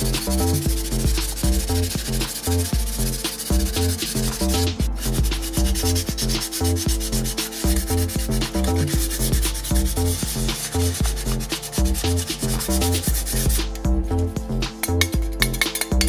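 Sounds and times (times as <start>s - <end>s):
sandpaper rubbing on metal: 0.0s - 13.8s
background music with bass line: 0.0s - 16.0s.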